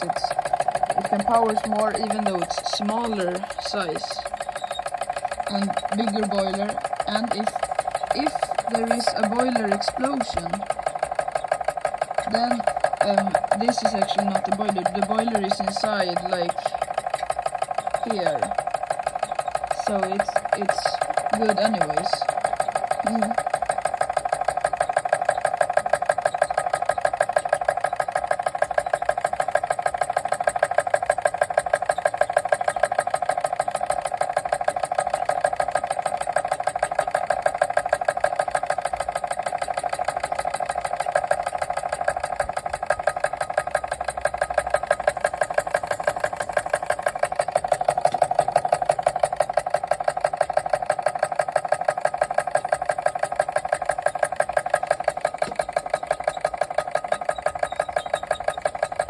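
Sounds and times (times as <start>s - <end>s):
model steam engine running: 0.0s - 59.0s.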